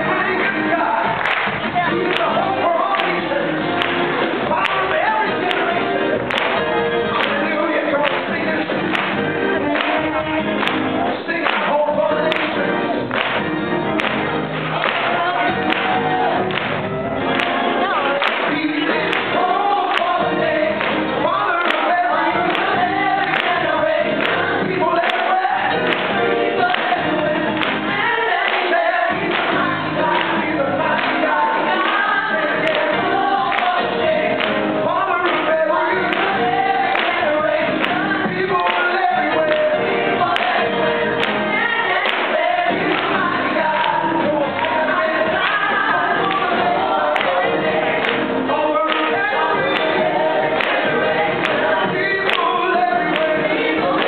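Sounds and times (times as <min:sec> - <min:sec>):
group singing gospel song: 0:00.0 - 0:54.0.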